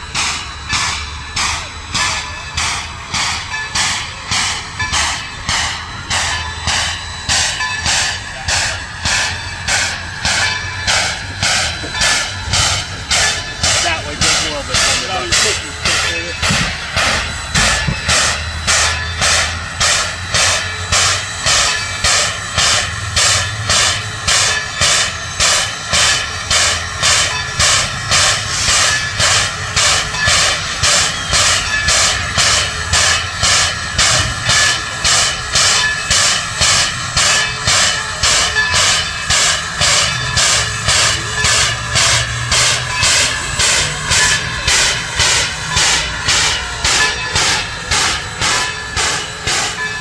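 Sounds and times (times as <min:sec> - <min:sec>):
air pump chuffing with hiss: 0:00.0 - 0:50.0.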